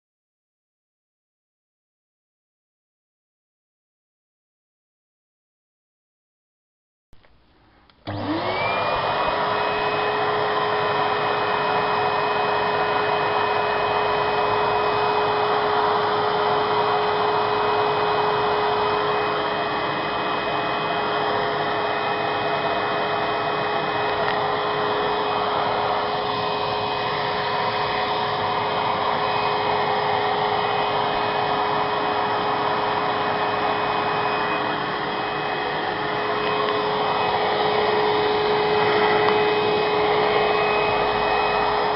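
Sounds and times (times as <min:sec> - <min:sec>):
vacuum cleaner running: 0:07.9 - 0:41.9.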